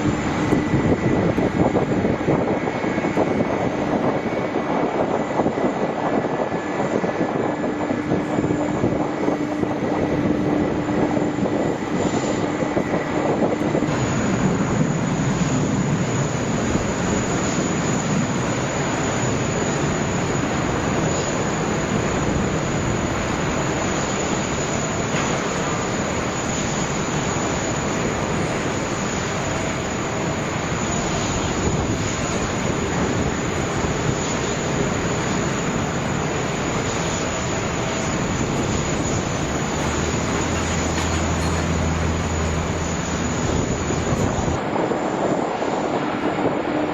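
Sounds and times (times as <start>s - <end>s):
faint steady whine: 0.0s - 46.9s
jet engines rushing: 0.0s - 46.9s.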